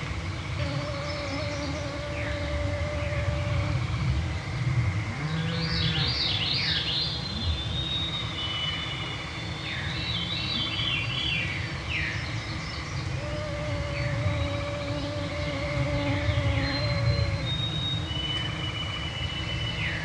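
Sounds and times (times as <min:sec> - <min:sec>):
mosquitoes whining: 0:00.0 - 0:20.0
songbirds singing flutey notes: 0:00.0 - 0:20.0.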